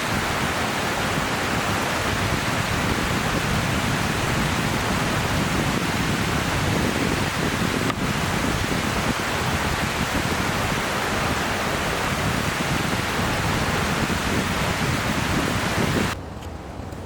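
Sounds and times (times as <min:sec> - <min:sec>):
river water rushing: 0:00.0 - 0:16.2.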